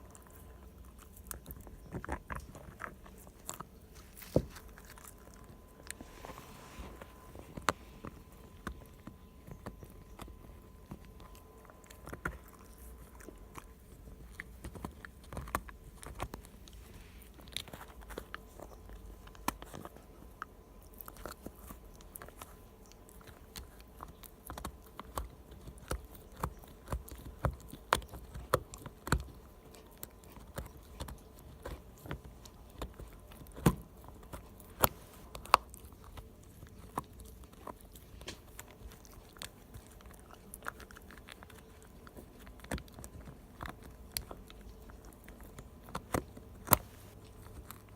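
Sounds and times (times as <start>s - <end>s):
dog gnawing and crunching chew: 0.0s - 47.9s.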